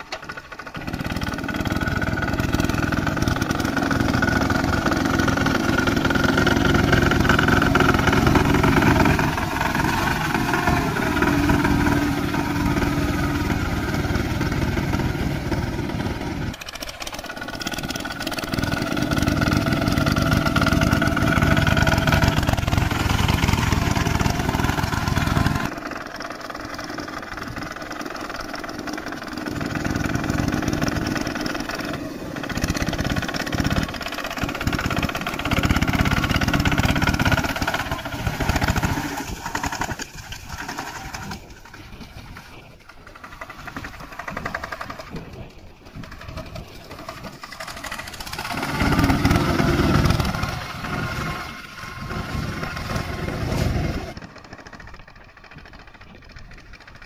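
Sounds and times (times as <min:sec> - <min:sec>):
cage wheels churning water: 0:00.0 - 0:57.0
walking tractor engine running: 0:00.0 - 0:57.0.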